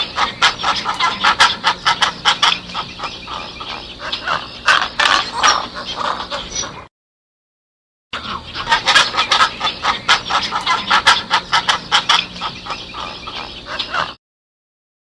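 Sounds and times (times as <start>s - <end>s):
fowl calling: 0.0s - 6.9s, 8.2s - 14.2s.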